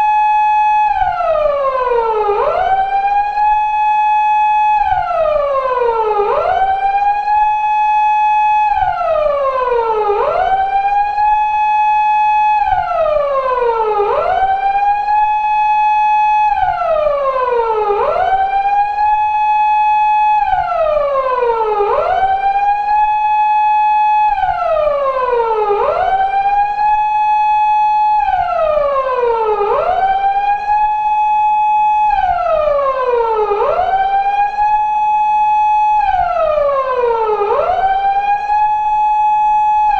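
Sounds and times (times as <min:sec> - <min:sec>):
police car siren wailing: 0:00.0 - 0:39.9.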